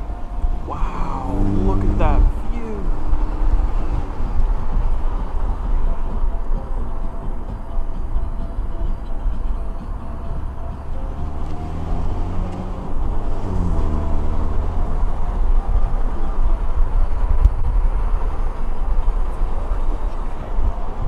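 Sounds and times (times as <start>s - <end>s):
engine note gliding up and down: 0.0s - 7.5s, 8.1s - 17.5s
car engine and road rumble: 0.0s - 21.0s.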